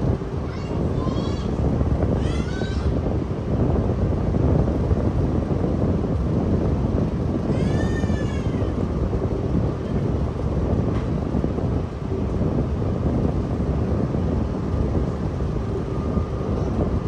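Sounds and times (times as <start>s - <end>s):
surf or wind rushing: 0.0s - 17.0s.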